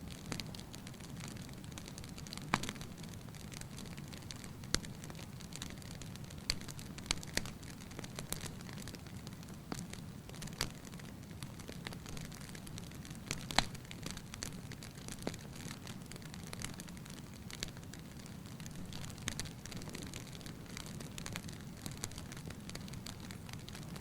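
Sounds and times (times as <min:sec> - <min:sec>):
bonfire burning: 0:00.0 - 0:24.0
fire crackling pops: 0:00.0 - 0:24.0.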